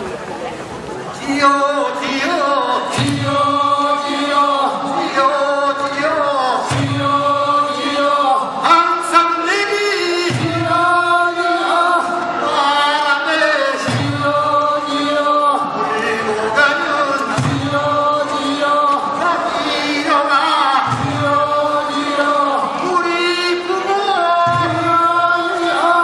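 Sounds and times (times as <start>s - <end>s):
men's chorus chanting work song: 1.4s - 26.0s.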